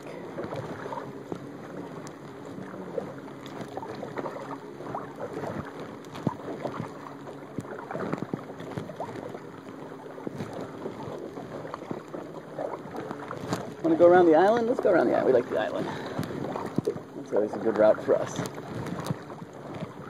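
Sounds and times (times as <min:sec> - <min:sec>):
paddle splashing water: 0:00.0 - 0:20.0
water lapping at hull: 0:00.0 - 0:20.0.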